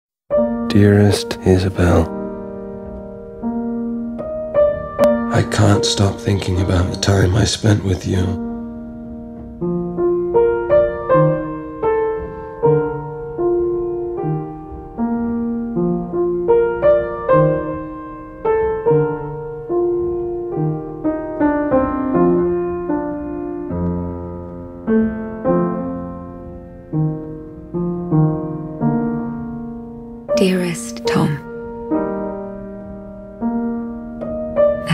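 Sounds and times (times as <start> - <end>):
soft piano music: 0.3 - 34.9.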